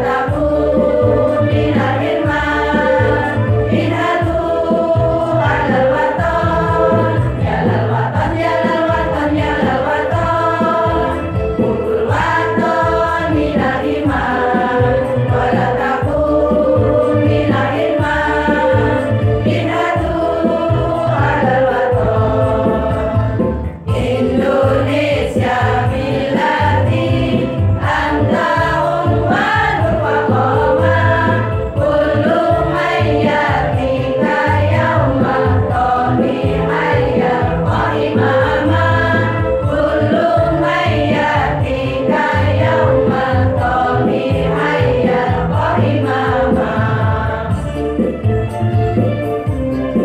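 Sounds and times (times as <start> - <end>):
women's choir singing: 0.0 - 47.7
instrumental accompaniment: 0.0 - 50.0.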